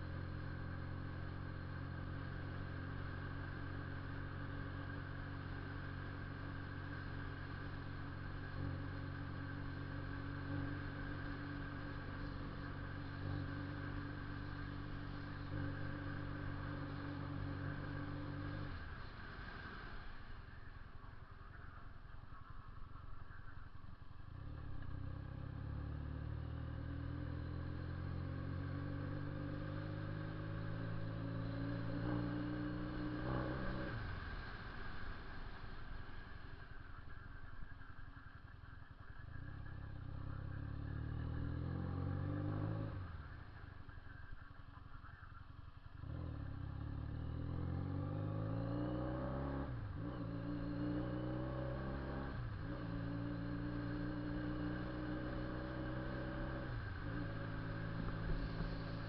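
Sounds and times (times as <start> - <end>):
motorcycle engine and loud exhaust: 0.0 - 59.0.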